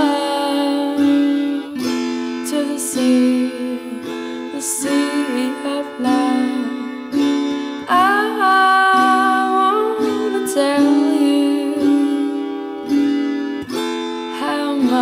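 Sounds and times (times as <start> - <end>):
plucked acoustic strings: 0.0 - 15.0.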